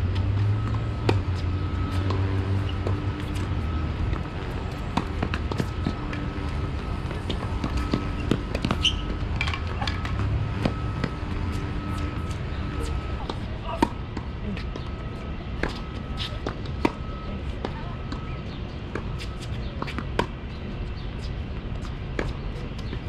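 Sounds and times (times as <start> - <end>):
balls bouncing on hard court: 0.0 - 20.4
steady low hum: 0.0 - 23.0
tennis balls struck by rackets: 0.1 - 20.4.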